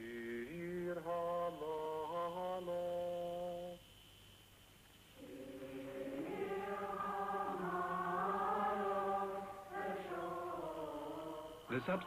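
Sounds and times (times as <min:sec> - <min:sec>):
choir singing slow chant: 0:00.0 - 0:03.8, 0:05.2 - 0:12.0.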